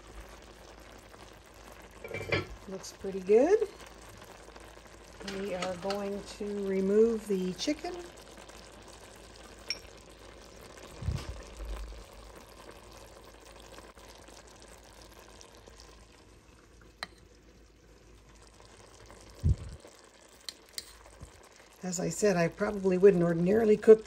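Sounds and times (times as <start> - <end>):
sauce sizzling and bubbling: 0.0 - 24.0.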